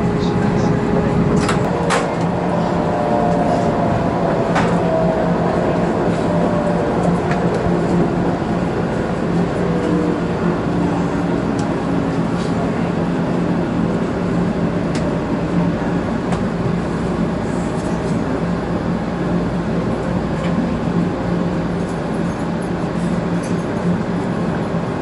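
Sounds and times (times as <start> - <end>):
constant low hum: 0.0 - 25.0
train rumbling from inside: 0.0 - 25.0.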